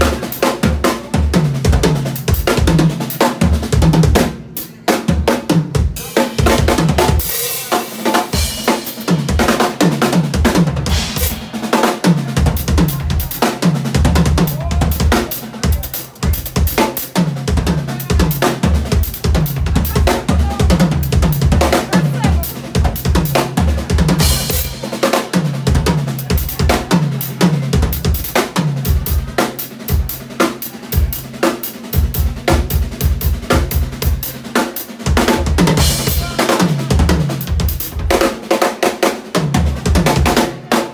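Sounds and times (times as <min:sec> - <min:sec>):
drum kit played hard: 0:00.0 - 0:40.9.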